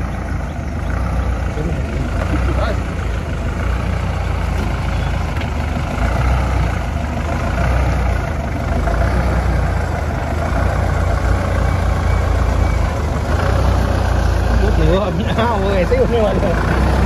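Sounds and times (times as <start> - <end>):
off-road vehicle engine at low revs: 0.0 - 17.0.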